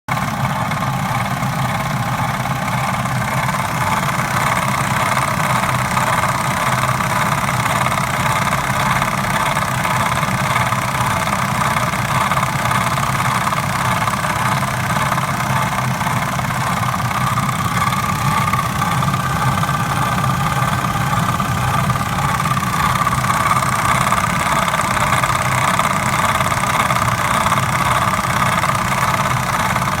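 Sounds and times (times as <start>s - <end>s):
car engine running: 0.1s - 30.0s
strange high-pitched engine noise: 0.1s - 30.0s.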